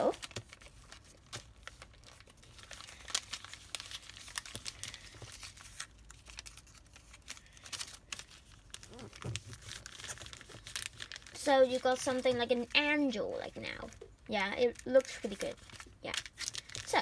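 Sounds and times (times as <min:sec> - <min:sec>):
paper being folded and creased: 0:00.0 - 0:17.0
paper crinkling and rustling: 0:00.0 - 0:17.0.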